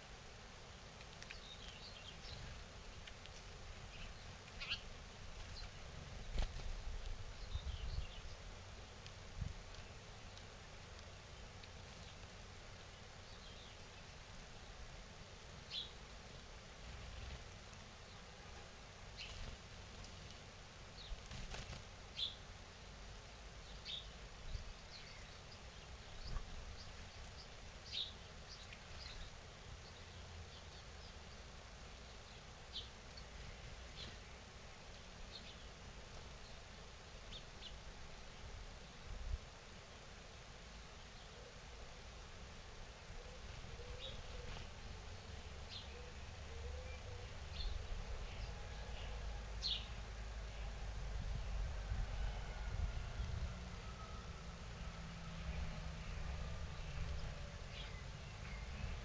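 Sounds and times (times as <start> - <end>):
low steady background rumble: 0.0 - 59.0
small birds chirping: 0.6 - 39.1, 43.2 - 50.7, 55.4 - 59.0.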